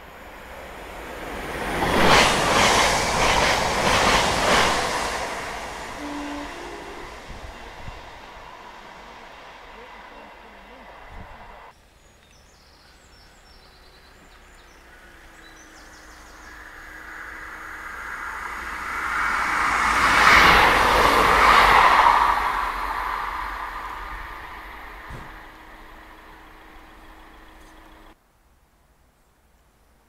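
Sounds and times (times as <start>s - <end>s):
diesel train passing at speed: 0.0s - 12.0s, 12.9s - 28.2s.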